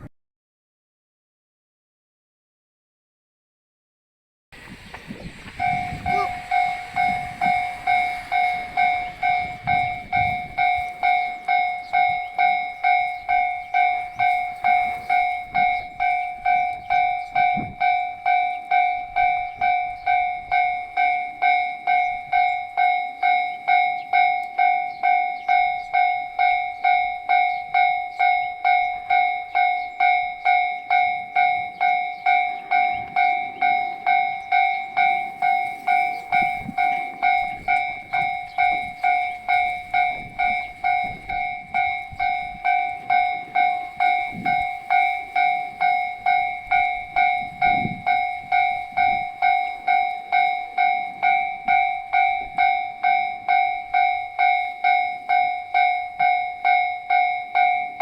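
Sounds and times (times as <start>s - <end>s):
level crossing warning bell: 4.6s - 58.0s.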